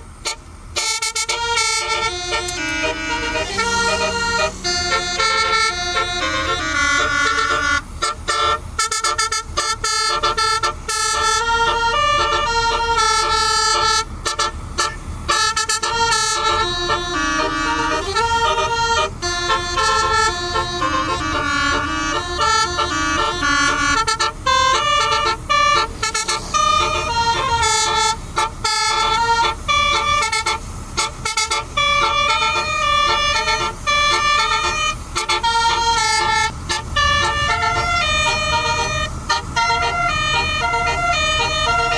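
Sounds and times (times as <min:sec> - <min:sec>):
bus multi-tone air horns melody: 0:00.0 - 0:41.9.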